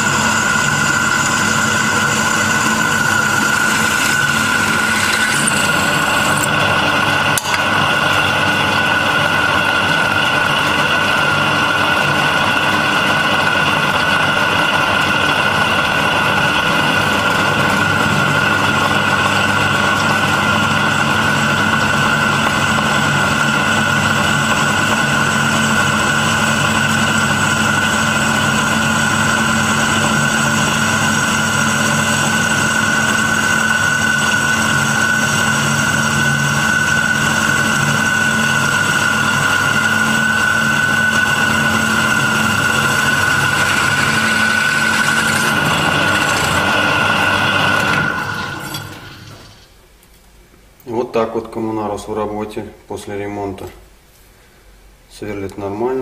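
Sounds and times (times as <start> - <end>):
drill press whining: 0.0 - 49.8.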